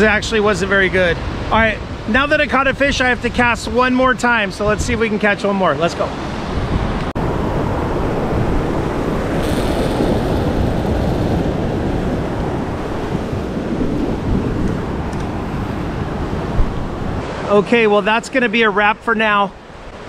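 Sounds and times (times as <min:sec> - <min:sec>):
wind rumbling on microphone: 0:00.0 - 0:17.5
ocean surf: 0:00.0 - 0:20.0.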